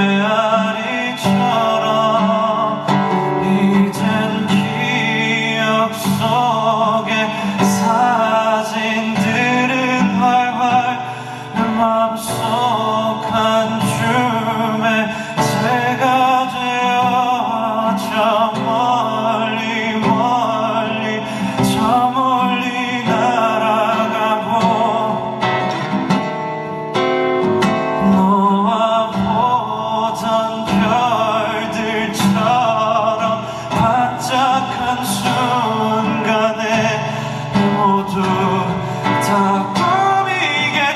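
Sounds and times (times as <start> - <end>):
male singer singing: 0.0 - 26.0, 27.8 - 40.9.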